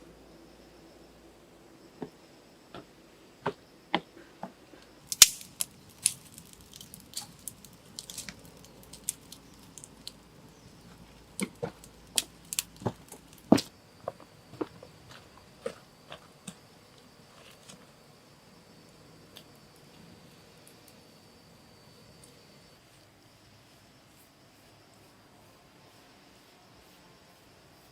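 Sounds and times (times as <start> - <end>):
faint high-pitched hum: 0.0 - 27.9.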